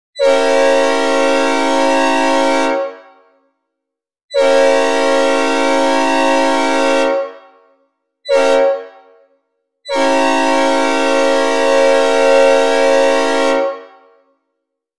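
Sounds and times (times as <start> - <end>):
train horn blasts: 0.2 - 3.4, 4.3 - 14.4.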